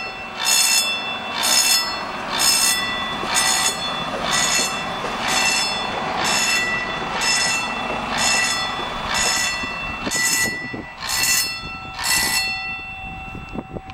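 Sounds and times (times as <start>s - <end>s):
level-crossing bell ringing: 0.0s - 13.9s
railcar rumbling on rails: 0.0s - 13.9s.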